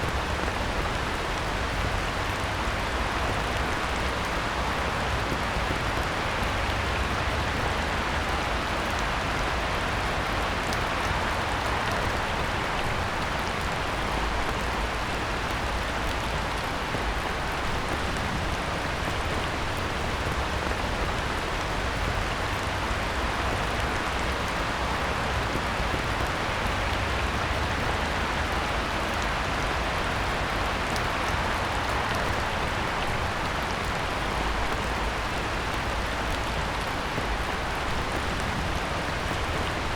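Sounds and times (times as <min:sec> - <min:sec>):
heavy rain on a pond: 0:00.0 - 0:39.9.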